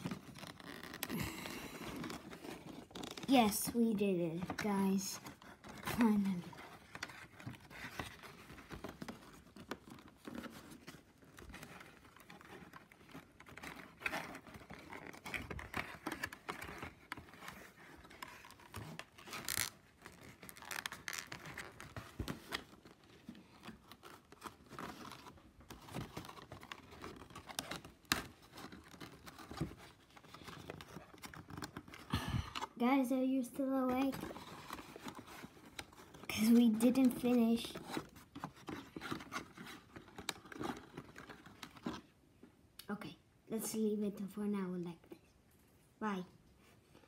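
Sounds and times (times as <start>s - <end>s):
cardboard rustling and scraping: 0.0s - 42.2s.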